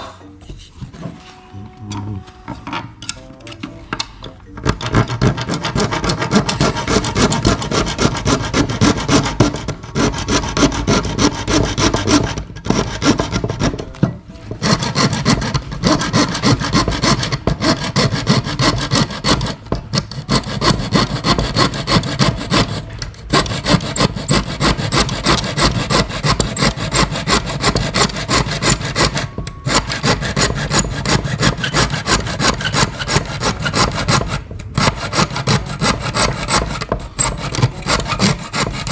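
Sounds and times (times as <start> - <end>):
hand file rasping on plastic: 1.0 - 38.9.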